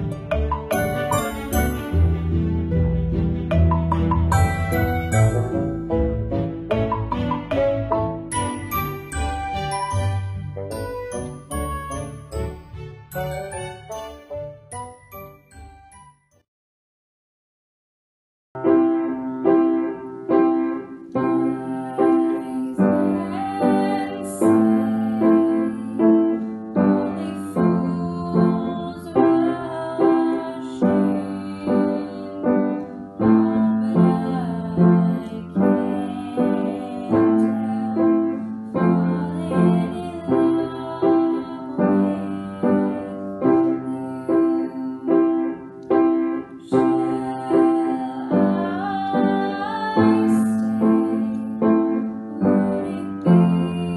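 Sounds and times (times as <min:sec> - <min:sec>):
upright piano ballad: 0:00.0 - 0:14.8, 0:18.6 - 0:53.9.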